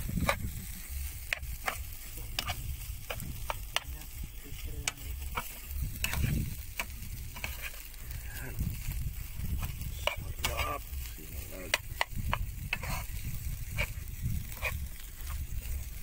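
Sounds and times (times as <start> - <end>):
rice sizzling: 0.0 - 16.0
paddle scraping rice in a pan: 0.2 - 15.5.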